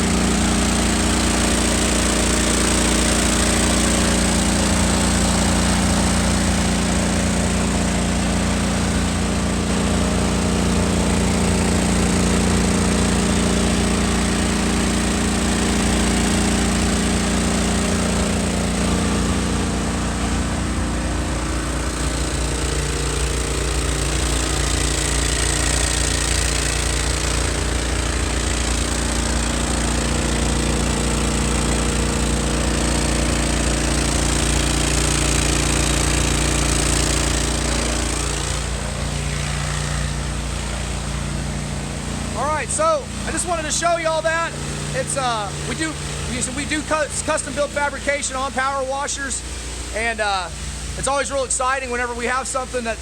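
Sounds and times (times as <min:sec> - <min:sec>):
pressure washer engine running: 0:00.0 - 0:53.0.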